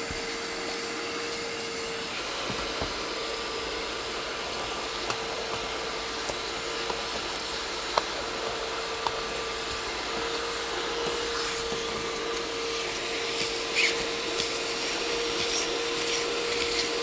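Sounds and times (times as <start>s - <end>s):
nozzle scraping wet upholstery: 0.0s - 17.0s
spot cleaner motor whine: 0.0s - 17.0s.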